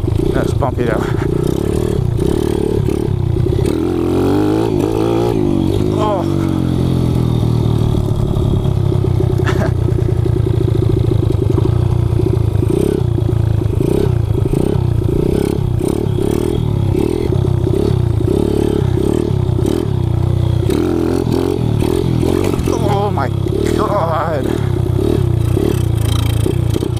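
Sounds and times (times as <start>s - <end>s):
motorcycle engine surging: 0.0s - 26.9s.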